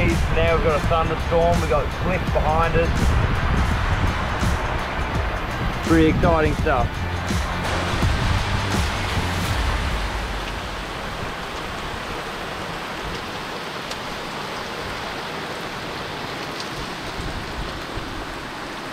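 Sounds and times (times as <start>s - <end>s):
rain hissing on a boat: 0.0s - 18.9s.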